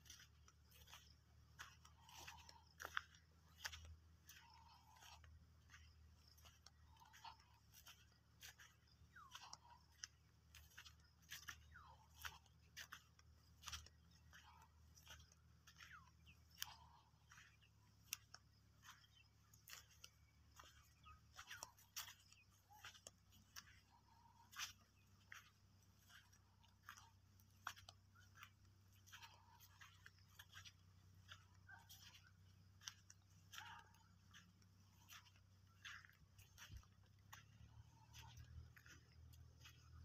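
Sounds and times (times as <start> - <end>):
footsteps crunching on dry soil: 0.0 - 40.0.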